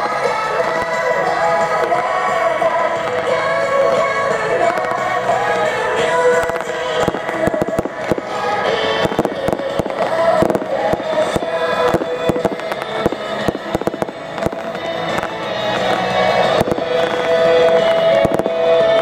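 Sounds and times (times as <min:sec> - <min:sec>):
fireworks bursting: 0:00.0 - 0:19.0
music playing: 0:00.0 - 0:19.0.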